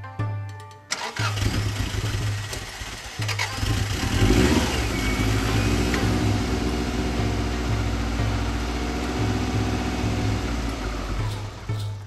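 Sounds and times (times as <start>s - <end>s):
car engine cranking: 0.9s - 12.0s
car engine revving and idling: 1.0s - 11.9s.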